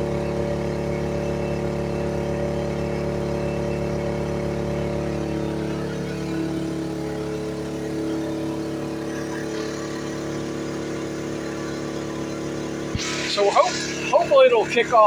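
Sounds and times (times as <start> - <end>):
generator engine hum: 0.0 - 15.0.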